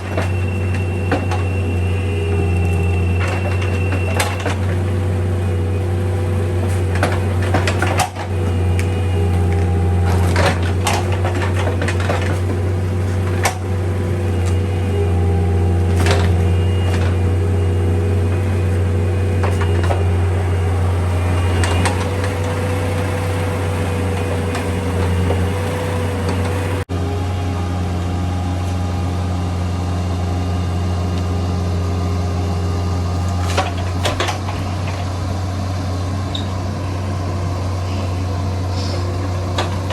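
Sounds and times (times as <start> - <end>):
hydraulic whine: 0.0 - 39.9
mini excavator diesel engine: 0.0 - 39.9.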